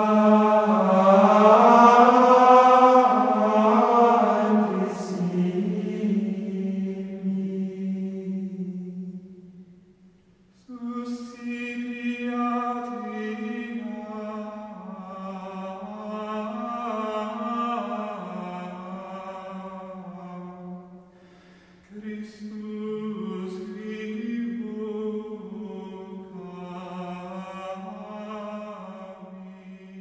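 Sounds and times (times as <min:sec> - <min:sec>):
slow chant-like singing: 0:00.0 - 0:09.9, 0:10.5 - 0:30.0.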